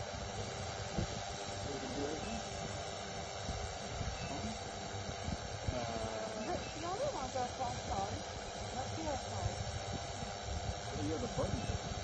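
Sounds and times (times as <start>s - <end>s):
drone rotors whining: 0.0s - 12.0s.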